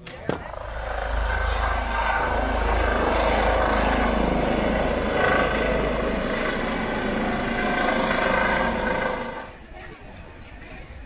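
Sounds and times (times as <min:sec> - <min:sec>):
helicopter rotor and turbine: 0:00.3 - 0:10.4.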